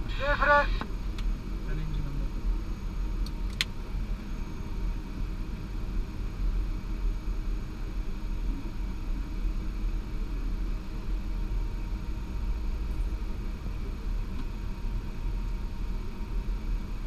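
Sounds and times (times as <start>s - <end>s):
aircraft engine rumble and whine: 0.0s - 17.0s.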